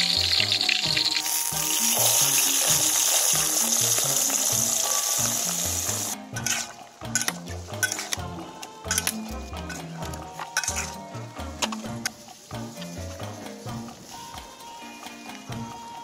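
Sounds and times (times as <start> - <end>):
fat sizzling in a wok: 0.0 - 9.8, 10.4 - 16.0.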